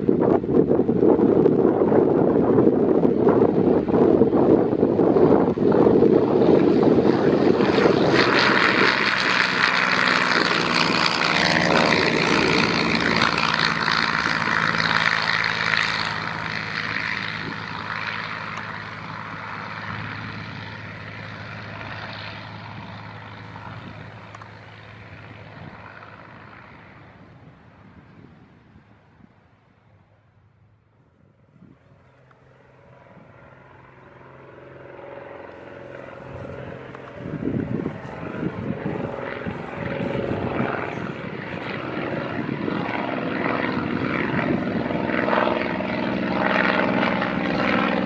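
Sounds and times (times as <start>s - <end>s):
propeller plane engine: 0.0s - 48.0s.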